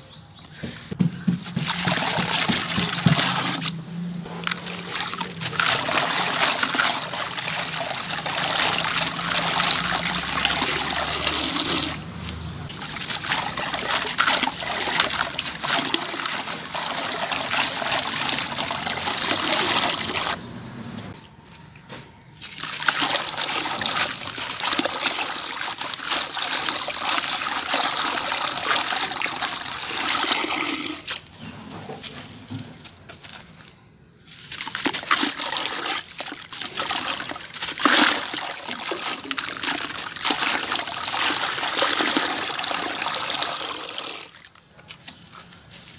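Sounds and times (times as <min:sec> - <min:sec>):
grit splashing into water: 0:01.4 - 0:20.4, 0:22.4 - 0:31.4, 0:32.0 - 0:44.7.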